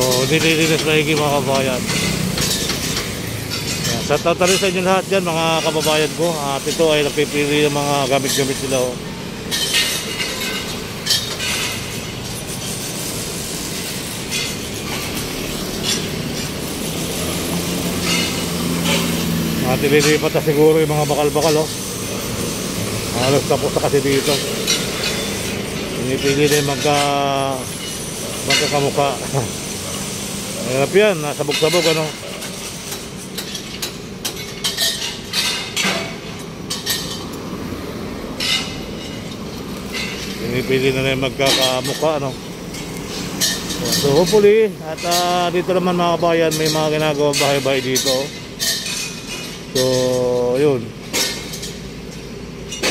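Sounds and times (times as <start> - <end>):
metallic clanks from construction work: 0.0 - 37.5, 38.3 - 52.9
steel pieces being handled: 0.0 - 52.9
street noise hum: 0.0 - 52.9.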